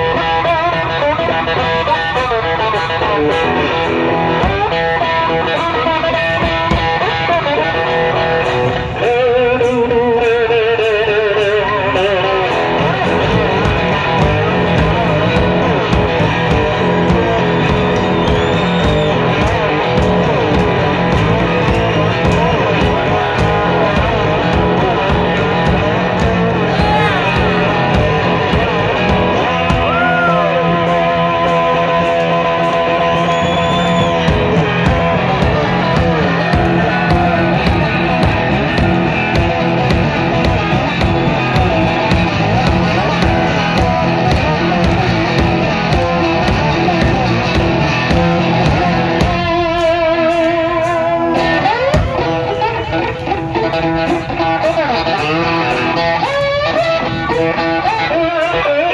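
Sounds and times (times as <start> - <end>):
bent guitar lead notes: 0.0 - 58.9
drum kit beat: 0.0 - 58.9
electric guitar: 0.0 - 58.9.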